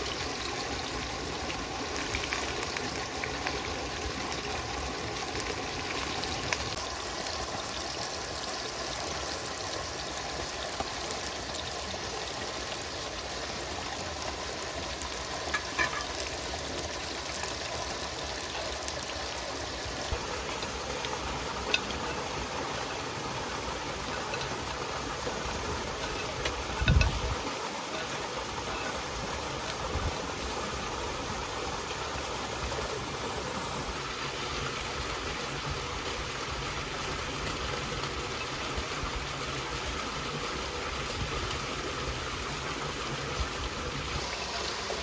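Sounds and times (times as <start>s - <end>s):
stream flowing: 0.0s - 45.0s.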